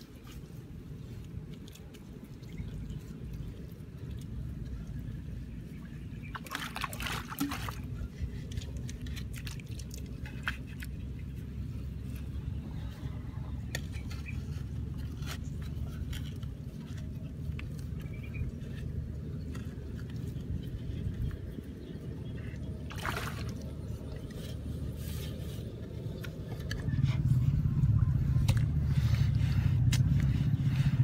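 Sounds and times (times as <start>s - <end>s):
steady low rumble: 0.0s - 6.5s, 7.2s - 31.0s
scraping in wet mud: 0.0s - 31.0s.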